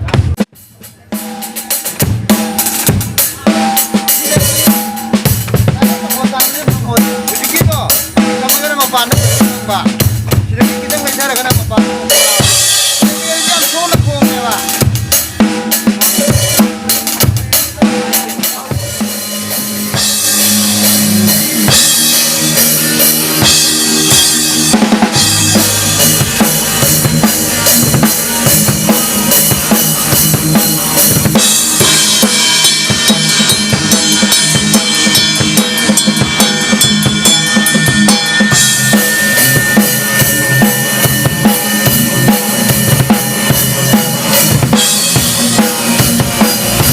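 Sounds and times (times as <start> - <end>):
amplified drum kit: 0.0 - 46.9.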